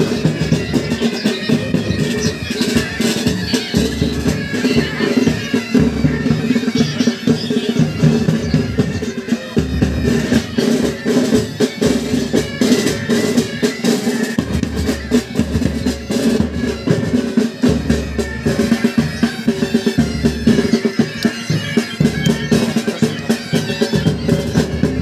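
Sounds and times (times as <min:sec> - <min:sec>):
bagpipes playing: 0:00.0 - 0:25.0
side-drum rolls: 0:00.0 - 0:25.0.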